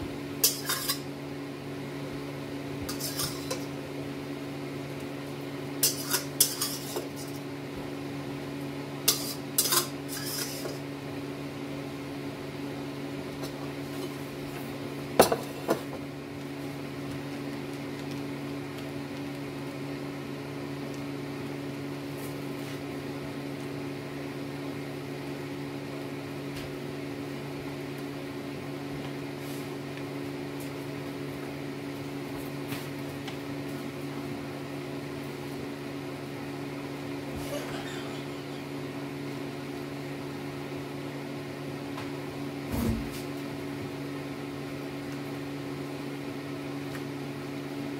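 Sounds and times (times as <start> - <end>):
electrical appliance hum: 0.0 - 47.9.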